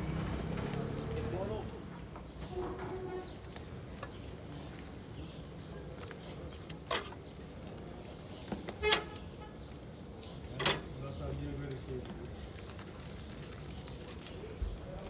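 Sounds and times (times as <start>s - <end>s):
shop background noise: 0.0s - 15.0s.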